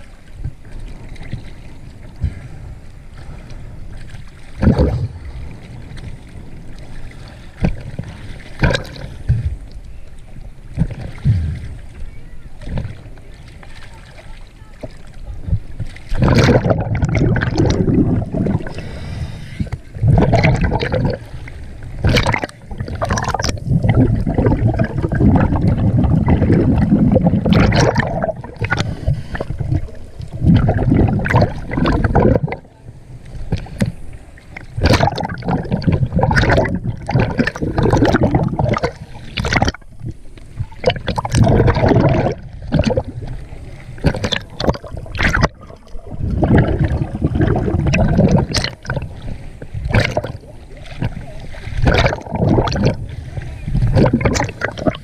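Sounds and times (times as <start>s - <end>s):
seawater sloshing and gurgling: 0.0s - 55.0s.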